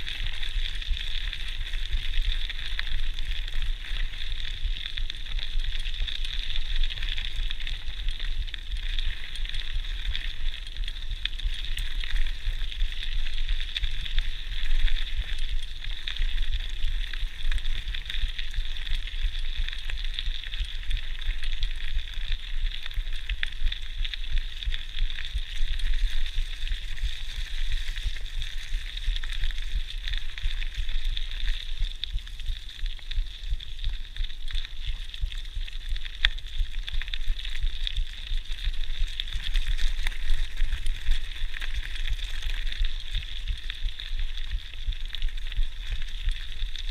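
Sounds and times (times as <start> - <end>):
bike tyres crunching on gravel: 0.0 - 46.9.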